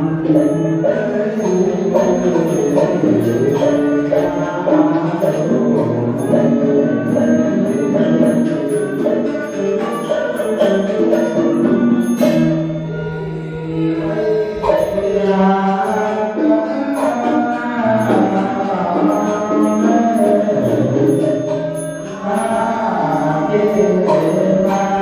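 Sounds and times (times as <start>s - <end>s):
music: 0.0s - 25.0s.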